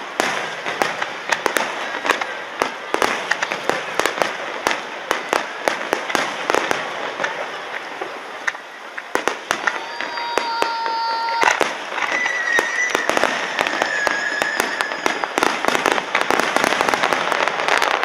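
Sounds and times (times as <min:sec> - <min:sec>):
fireworks bangs: 0:00.0 - 0:18.0
fireworks crackling: 0:00.0 - 0:18.0
fireworks whistling: 0:00.0 - 0:18.0.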